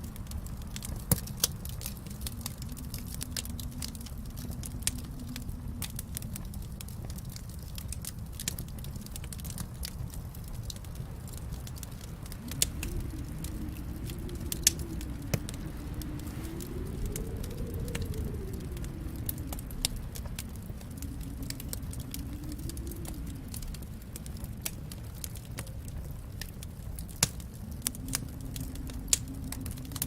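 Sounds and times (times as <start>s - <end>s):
fire pops and snaps: 0.0s - 30.0s
low rumble of flames: 0.0s - 30.0s.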